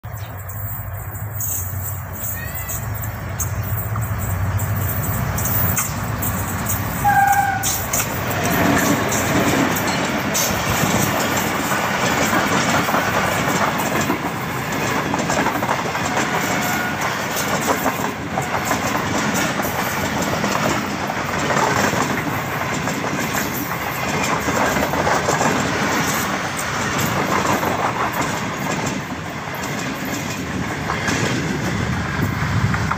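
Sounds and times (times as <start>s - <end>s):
diesel locomotive passing: 0.0s - 32.9s
wheels clattering over rails: 0.1s - 32.9s.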